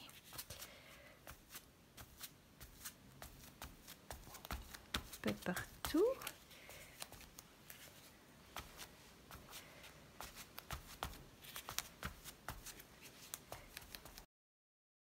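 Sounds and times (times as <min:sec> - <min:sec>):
foam dabbing paint on paper: 0:00.1 - 0:14.3.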